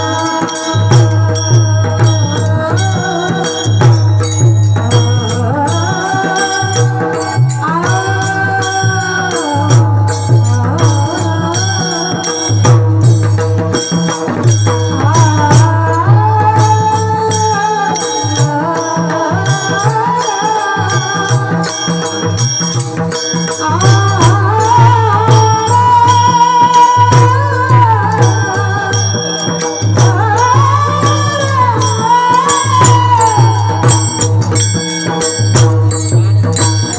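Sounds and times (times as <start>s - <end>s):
ringing hand cymbals: 0.0s - 36.9s.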